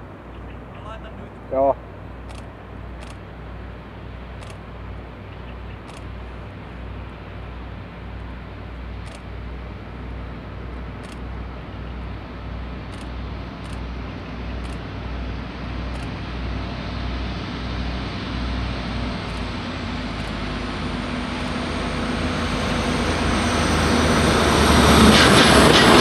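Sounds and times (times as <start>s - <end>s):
diesel locomotives rumbling: 0.0s - 26.0s.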